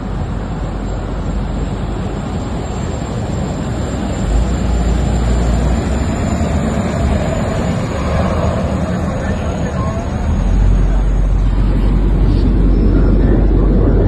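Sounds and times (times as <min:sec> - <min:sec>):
ferry engine rush and rumble: 0:00.0 - 0:14.0.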